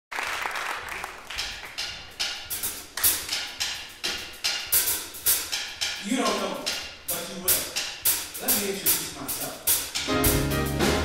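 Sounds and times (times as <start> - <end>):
rhythmic tapping in a hall: 0.1 - 11.0.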